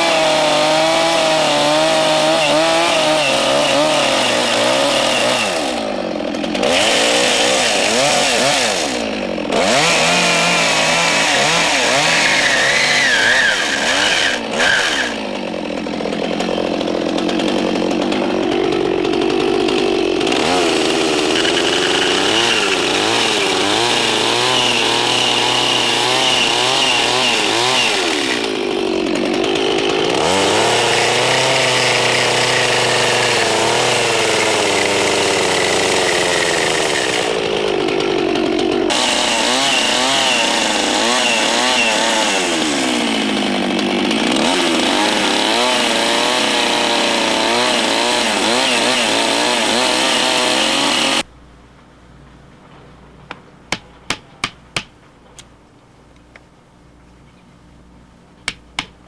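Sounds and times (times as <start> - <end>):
chainsaw cutting log: 0.0 - 51.3.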